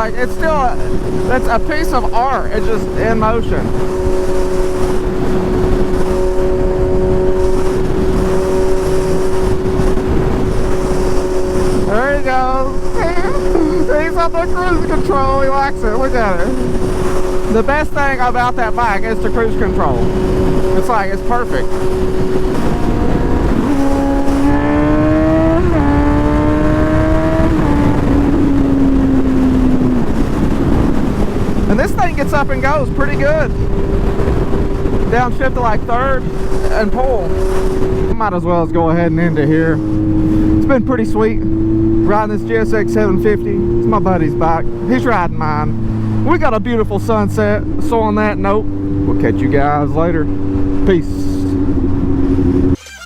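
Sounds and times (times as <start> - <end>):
motorcycle engine steady: 0.0 - 52.8
wind and road rush: 0.0 - 52.8.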